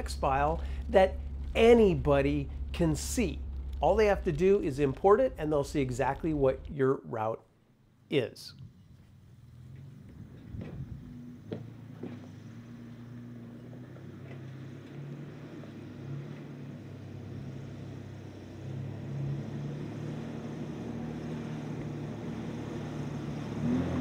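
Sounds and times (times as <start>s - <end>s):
suv engine running at low speed: 0.0s - 24.0s.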